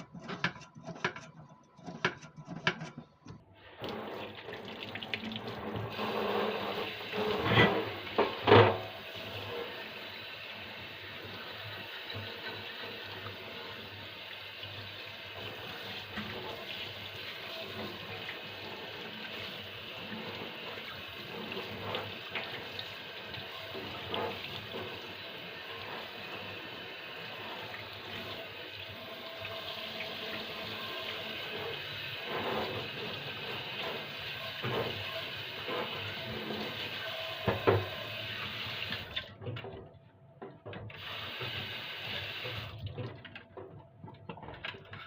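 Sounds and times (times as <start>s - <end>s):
tap water running into sink: 3.6s - 39.7s, 40.8s - 44.9s.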